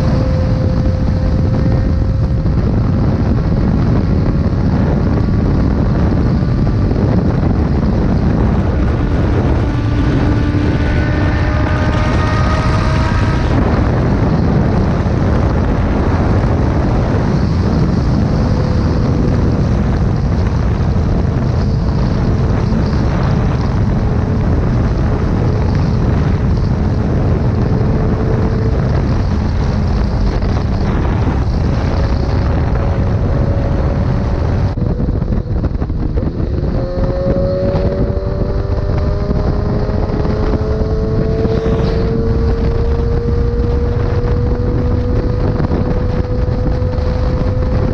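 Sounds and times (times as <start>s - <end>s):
motorcycle engine: 0.0s - 47.9s
wind buffeting on microphone: 0.0s - 47.9s.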